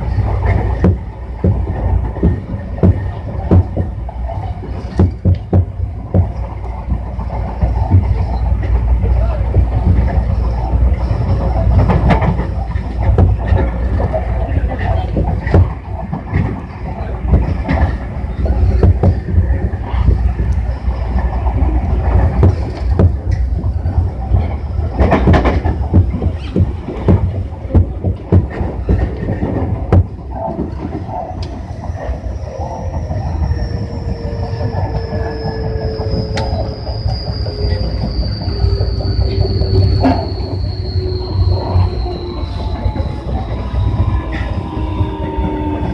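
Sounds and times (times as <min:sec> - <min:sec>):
track clicks and knocks: 0:00.0 - 0:45.9
train wheels rumbling on rail: 0:00.0 - 0:45.9.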